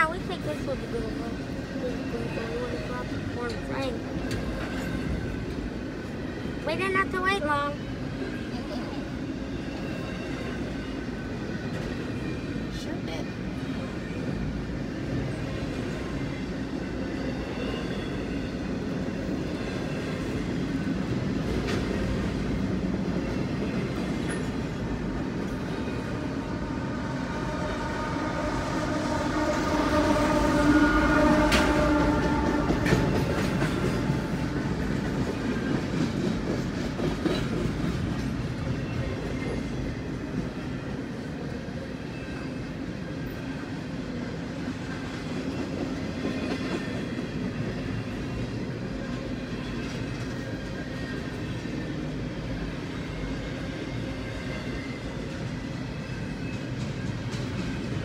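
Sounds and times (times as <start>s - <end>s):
train wheels rumbling over rails: 0.0s - 58.0s.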